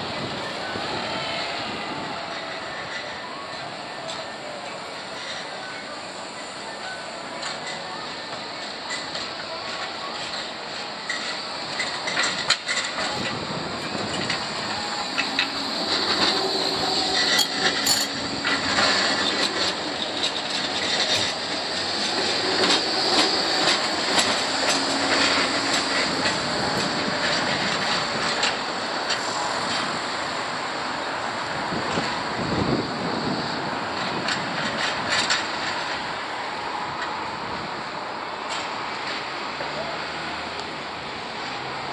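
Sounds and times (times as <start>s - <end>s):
tram wheels on rails: 0.0s - 41.9s.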